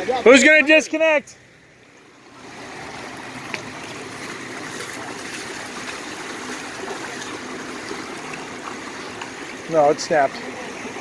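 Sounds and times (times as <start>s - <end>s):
river flowing over rocks: 0.0s - 11.0s.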